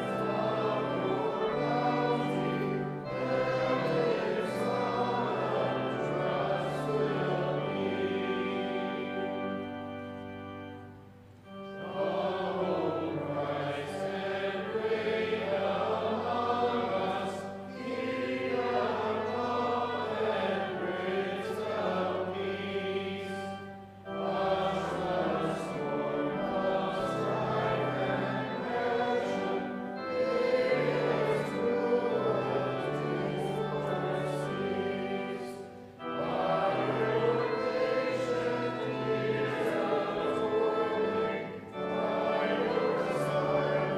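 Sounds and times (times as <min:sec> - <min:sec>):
held accompaniment notes: 0:00.0 - 0:43.9
many voices singing a hymn: 0:00.0 - 0:43.9.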